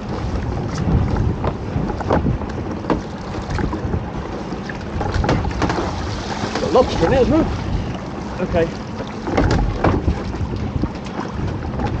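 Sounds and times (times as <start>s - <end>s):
knocks and splashes: 0.0s - 12.0s
water lapping against boat: 0.0s - 12.0s
wind buffeting microphone: 0.0s - 12.0s.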